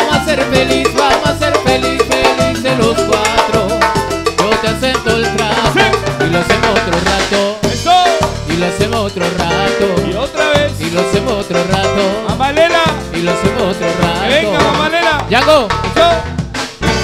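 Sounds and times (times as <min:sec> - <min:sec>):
latin dance band playing: 0:00.0 - 0:17.0
percussion beat: 0:00.0 - 0:17.0.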